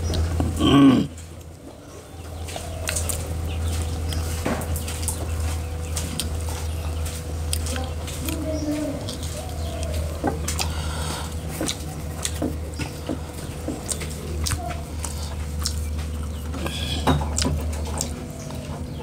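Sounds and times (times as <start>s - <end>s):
chewing: 0.0s - 19.0s
steady low hum: 0.0s - 19.0s.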